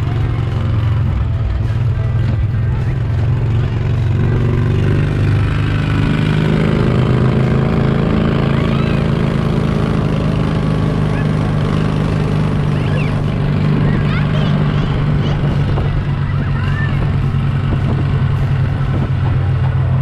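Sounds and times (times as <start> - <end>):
towing vehicle engine running: 0.0 - 20.0.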